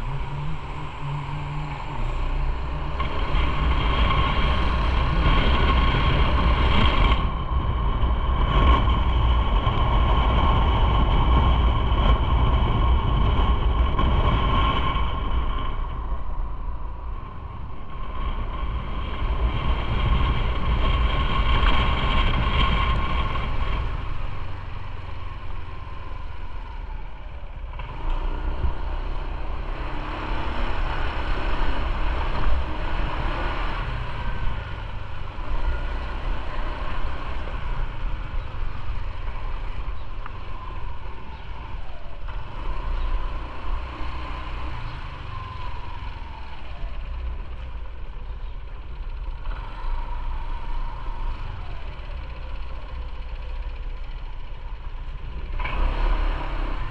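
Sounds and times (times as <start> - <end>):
motorcycle engine running: 0.0 - 56.9
road noise: 0.0 - 56.9
wind noise: 0.0 - 56.9.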